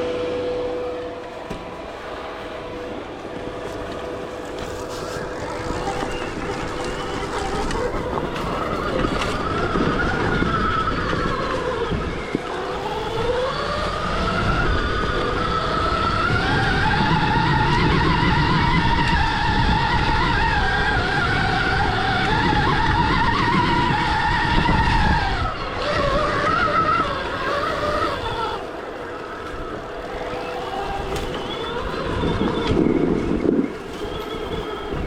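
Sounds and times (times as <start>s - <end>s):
electric motorbike motor whining: 0.0s - 35.0s
rumble of tyres and wind: 0.0s - 35.0s.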